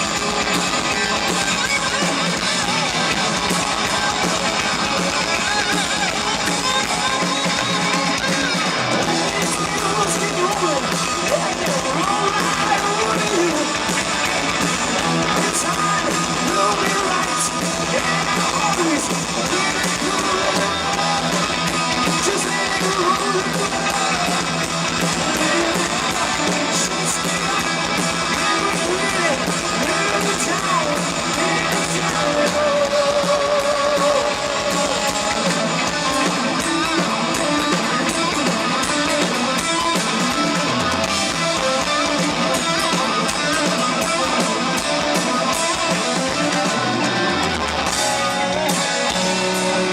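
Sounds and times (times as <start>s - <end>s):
electric guitar: 0.0s - 49.9s
hard rock band playing live: 0.0s - 49.9s.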